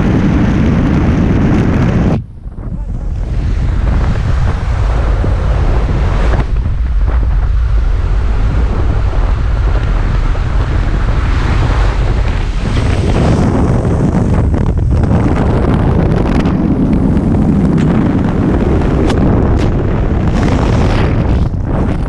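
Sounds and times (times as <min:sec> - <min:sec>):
propeller plane engine running: 0:00.0 - 0:22.0
wind buffeting microphone: 0:00.0 - 0:22.0
wind rushing through open door: 0:00.0 - 0:22.0.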